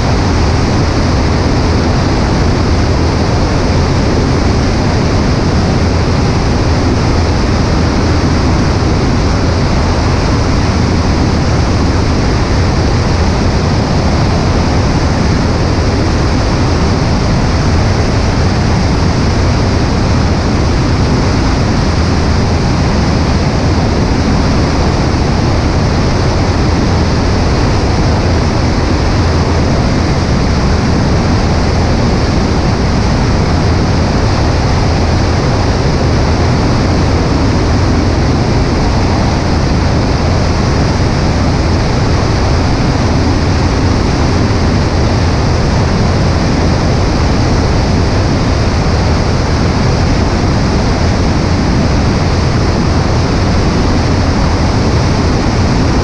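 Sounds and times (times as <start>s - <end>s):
light aircraft engine and propeller: 0.0s - 56.0s
wind rushing: 0.0s - 56.0s.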